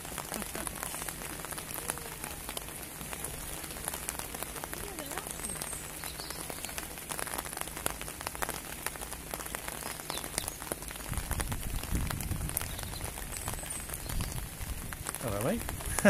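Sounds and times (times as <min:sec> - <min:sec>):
rain pattering: 0:00.0 - 0:16.0
river rushing in flood: 0:00.0 - 0:16.0.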